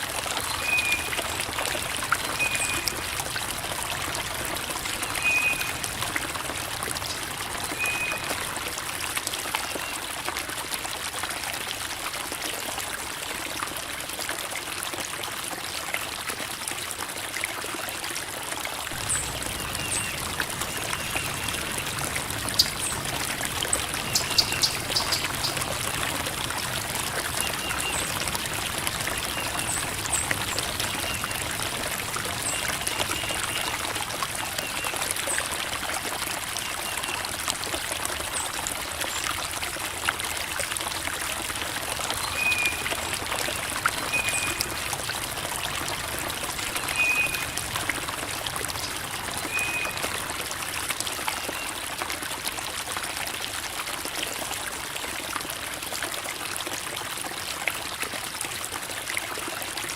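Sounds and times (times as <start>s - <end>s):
creek water babbling over rocks: 0.0s - 59.9s.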